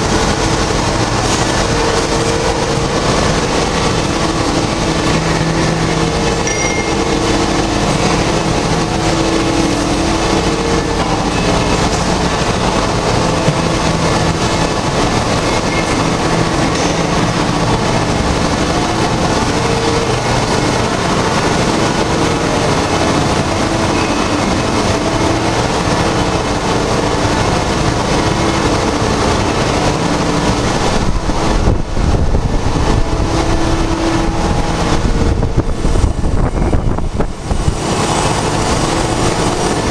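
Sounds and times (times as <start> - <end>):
machine shop machinery running: 0.0 - 39.9
mechanical humming tones: 0.0 - 39.9.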